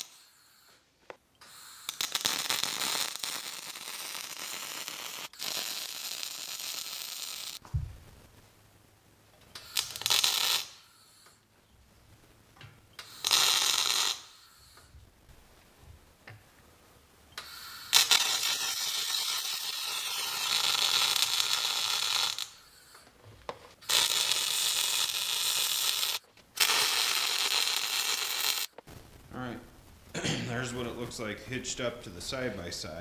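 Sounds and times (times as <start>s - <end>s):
welder arc crackling: 0.0s - 8.5s, 9.4s - 11.4s, 12.0s - 15.6s, 17.4s - 32.5s.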